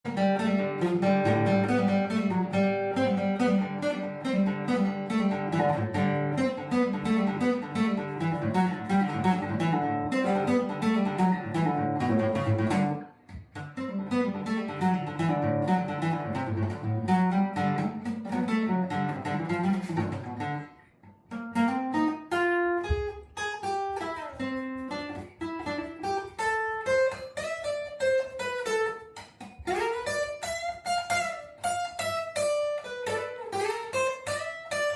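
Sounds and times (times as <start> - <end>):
acoustic guitar music: 0.0 - 34.9.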